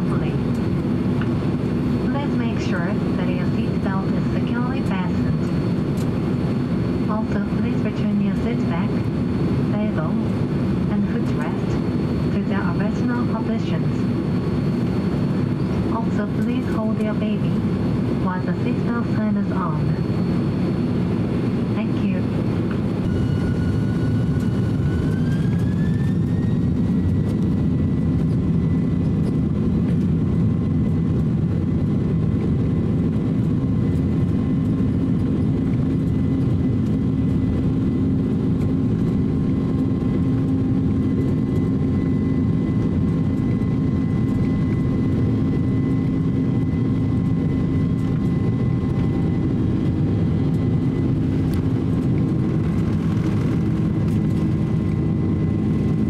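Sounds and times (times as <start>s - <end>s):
jet engine rumble: 0.0s - 56.0s
jet engine whine: 0.0s - 56.0s.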